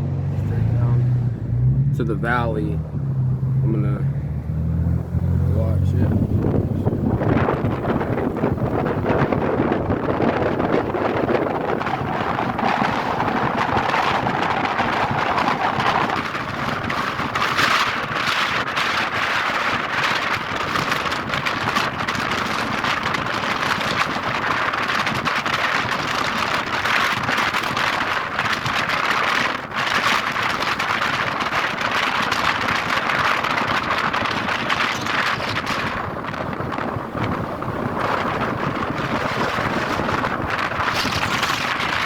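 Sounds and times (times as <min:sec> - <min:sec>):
wind and road noise in car: 0:00.0 - 0:42.0.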